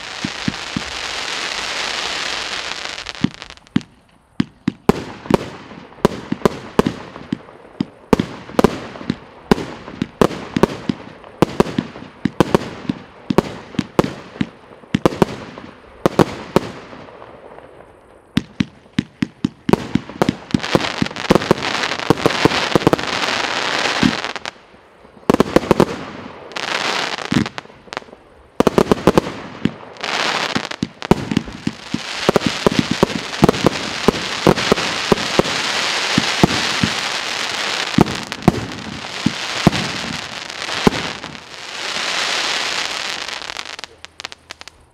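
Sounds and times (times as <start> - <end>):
firework bangs: 0.0 - 44.9
firework crackling: 0.0 - 44.9.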